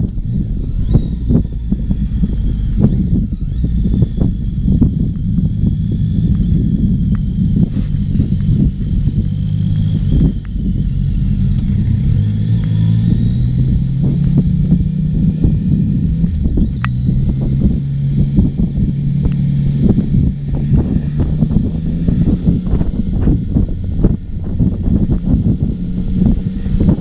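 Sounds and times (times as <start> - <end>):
motorcycle engine at low speed: 0.0 - 27.0
wind buffeting microphone: 0.0 - 27.0.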